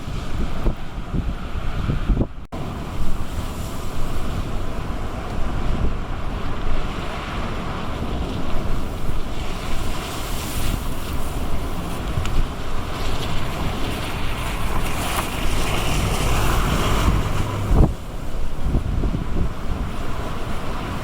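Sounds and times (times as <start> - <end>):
storm waves breaking: 0.0 - 21.0
wind buffeting microphone: 0.0 - 21.0.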